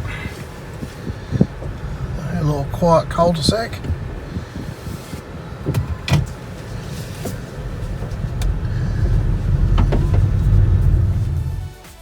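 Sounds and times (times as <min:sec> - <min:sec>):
car engine rumble: 0:00.0 - 0:11.9.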